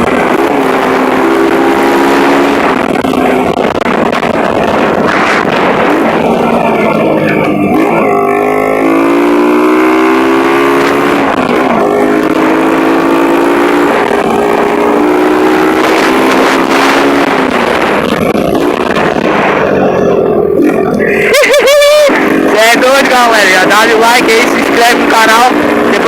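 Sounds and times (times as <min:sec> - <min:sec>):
motorcycle engine running hard: 0:00.0 - 0:26.0.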